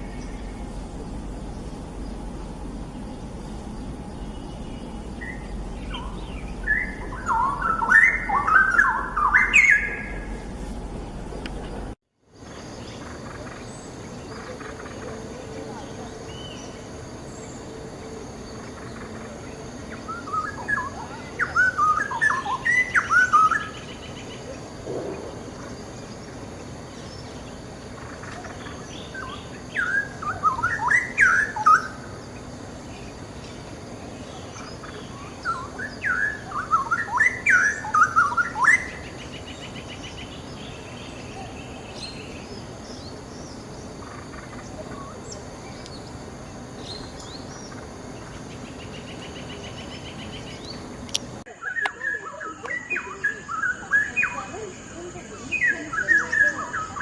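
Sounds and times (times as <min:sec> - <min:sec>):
bird singing rapid notes: 0:00.0 - 0:11.8, 0:12.4 - 0:57.0.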